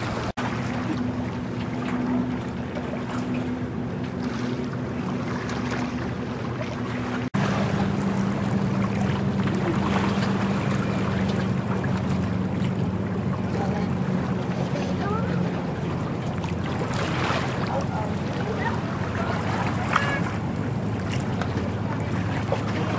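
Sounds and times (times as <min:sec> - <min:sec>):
boat diesel engine drone: 0:00.0 - 0:22.9
water washing: 0:00.0 - 0:22.9.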